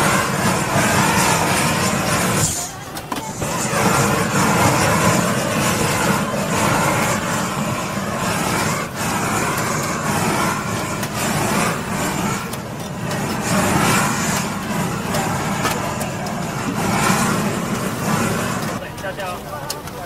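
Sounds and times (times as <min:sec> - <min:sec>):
gas blowtorch roaring hiss: 0:00.0 - 0:20.0.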